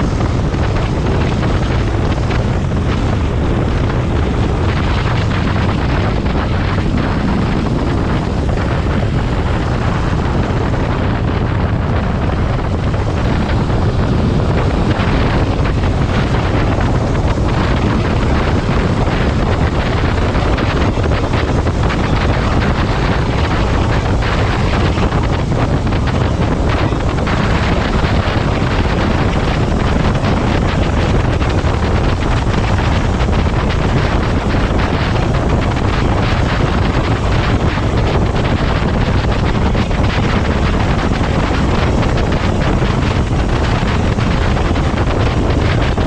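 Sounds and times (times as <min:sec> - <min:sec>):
motorcycle engine running: 0:00.0 - 0:46.0
wind rushing over microphone: 0:00.0 - 0:46.0.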